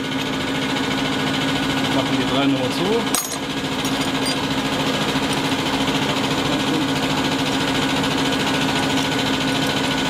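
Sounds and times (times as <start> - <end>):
test bench machine humming: 0.0 - 10.0.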